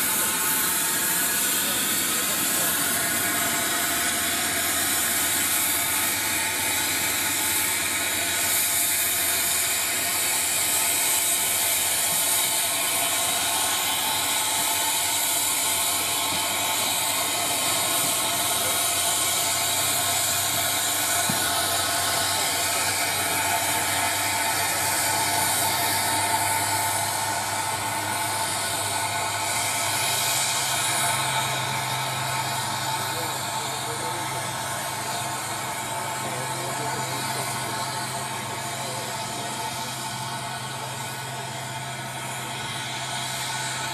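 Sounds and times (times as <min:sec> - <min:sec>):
steam locomotive hissing: 0:00.0 - 0:43.9.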